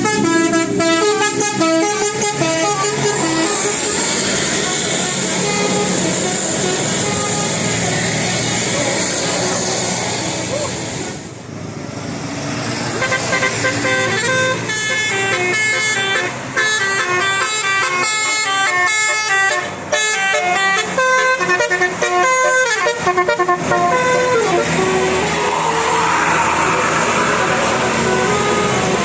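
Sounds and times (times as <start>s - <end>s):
multi-tone musical air horn: 0.0s - 9.7s, 13.0s - 29.0s.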